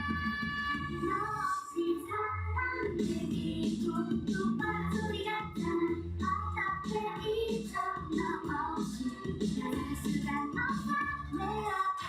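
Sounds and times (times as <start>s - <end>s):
pop backing track: 0.0s - 12.0s.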